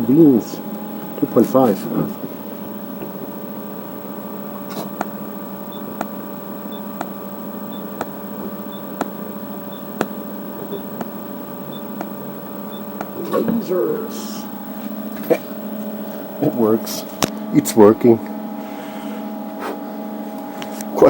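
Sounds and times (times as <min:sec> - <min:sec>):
power supply hum: 0:00.0 - 0:21.0.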